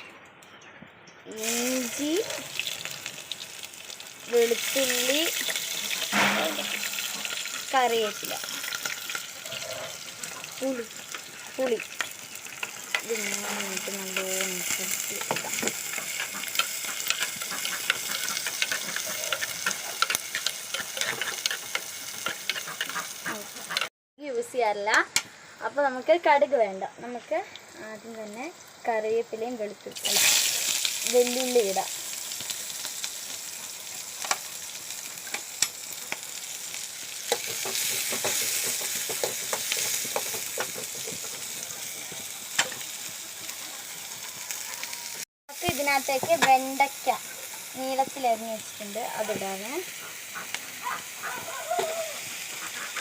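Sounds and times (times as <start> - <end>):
food frying in hot oil: 1.3 - 53.0
oil crackling and popping: 1.4 - 23.9, 29.9 - 53.0.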